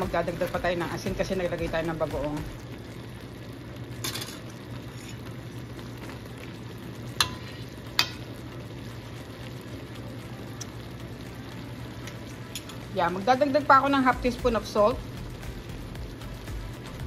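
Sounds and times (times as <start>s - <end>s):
leaves simmering in a pan: 0.0s - 17.0s
low hum: 0.0s - 17.0s.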